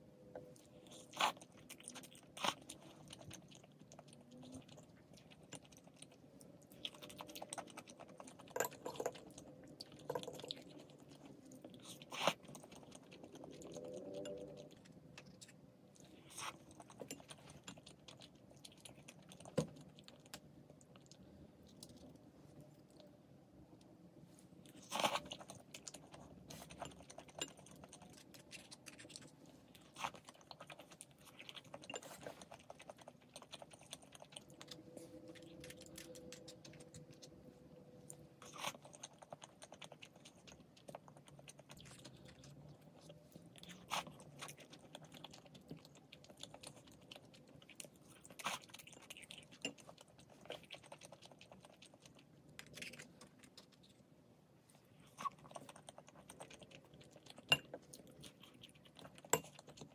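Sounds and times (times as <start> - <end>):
chewing and biting: 0.4 - 23.1, 24.5 - 54.1, 55.0 - 59.9.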